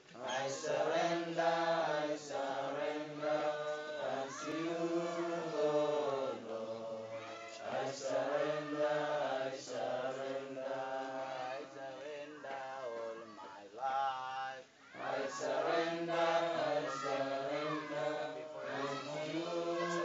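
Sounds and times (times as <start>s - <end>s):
voices singing a slow chant: 0.0s - 20.0s.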